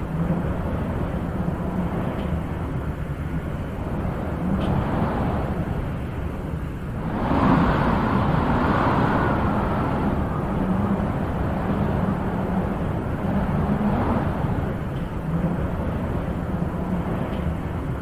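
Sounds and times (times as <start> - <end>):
wind blowing in gusts: 0.0 - 18.0.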